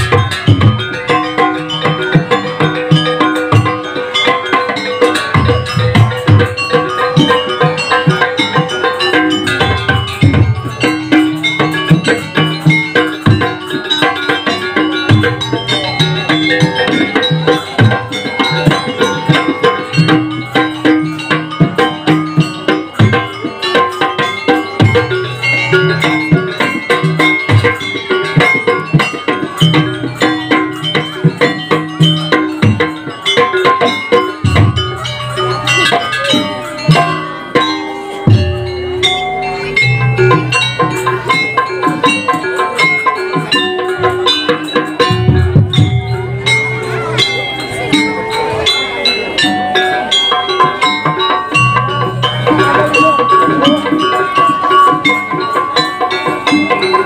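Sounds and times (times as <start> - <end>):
drums beating fast: 0.0 - 57.0
ringing gong-chimes: 0.0 - 57.0.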